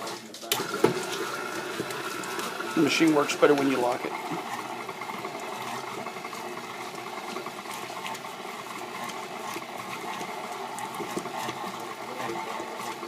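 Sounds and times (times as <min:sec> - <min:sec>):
stand mixer running: 0:00.0 - 0:13.0.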